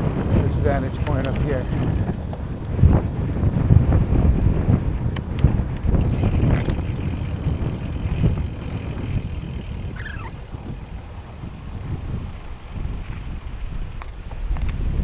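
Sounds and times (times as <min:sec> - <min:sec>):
sharp clicks: 0:00.0 - 0:02.8, 0:05.1 - 0:14.7
wind buffeting microphone: 0:00.0 - 0:15.0.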